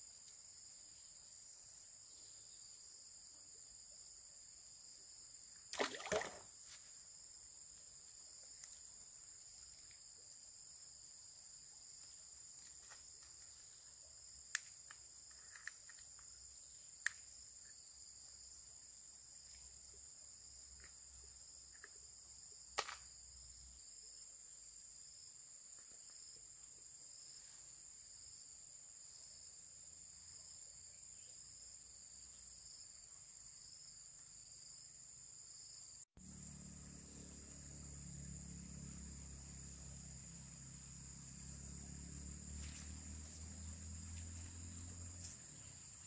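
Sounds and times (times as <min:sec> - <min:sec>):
insect chorus trilling: 0:00.0 - 0:46.0.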